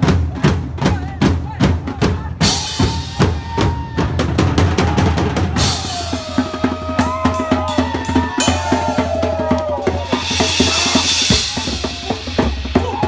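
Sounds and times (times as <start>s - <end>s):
fast drum-kit beat: 0.0s - 13.0s.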